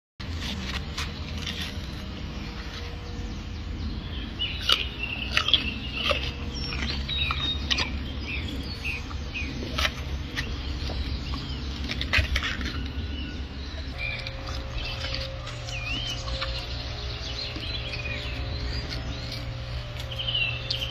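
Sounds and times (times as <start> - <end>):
gorilla crunching food: 0.2 - 20.9
small birds chirping: 0.2 - 20.9
steady low hum: 0.2 - 20.9.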